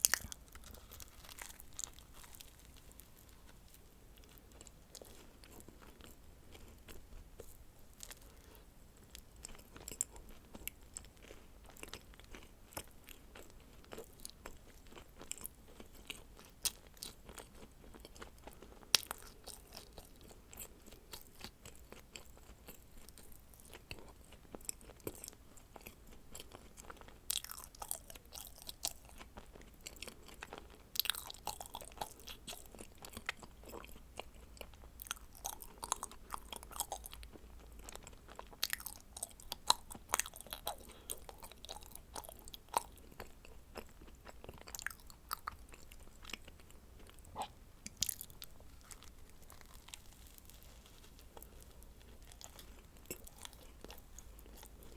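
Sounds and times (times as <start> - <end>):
person chewing crunchy cookies: 0.0 - 54.9.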